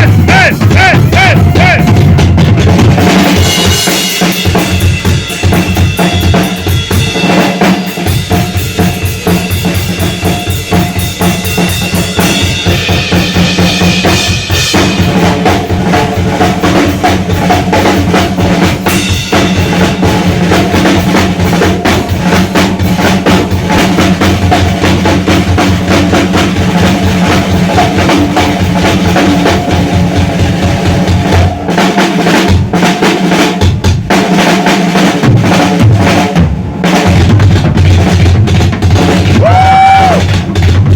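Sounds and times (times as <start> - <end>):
rock drum kit playing: 0.0 - 40.9.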